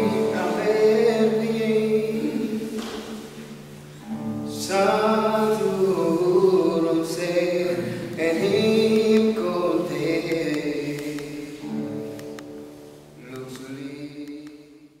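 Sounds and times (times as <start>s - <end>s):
music with singing voices: 0.0s - 3.6s, 4.5s - 15.0s.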